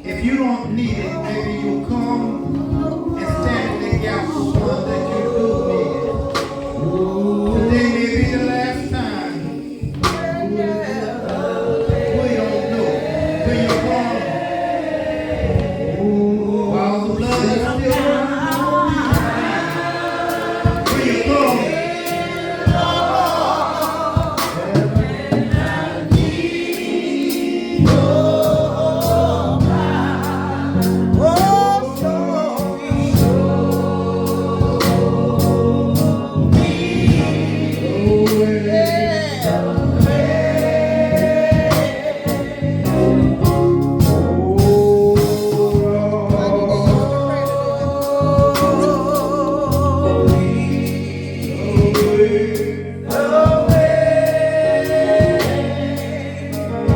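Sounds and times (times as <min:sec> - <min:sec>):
instrumental accompaniment with beat: 0:00.0 - 0:16.2, 0:17.0 - 0:56.9
gospel choir singing: 0:00.0 - 0:56.9.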